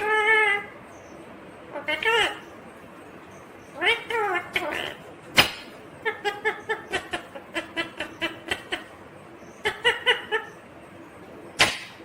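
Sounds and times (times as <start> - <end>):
parakeet chattering: 0.0 - 12.0.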